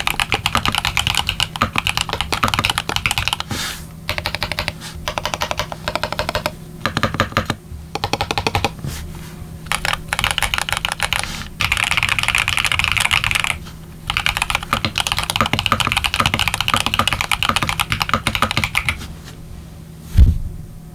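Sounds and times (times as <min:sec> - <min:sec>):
fast typing on mechanical keyboard: 0:00.0 - 0:03.5, 0:04.1 - 0:08.8, 0:09.7 - 0:19.0.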